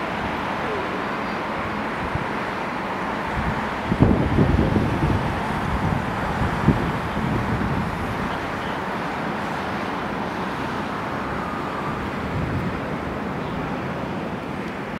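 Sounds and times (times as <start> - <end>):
distant jet engine noise: 0.0 - 14.9.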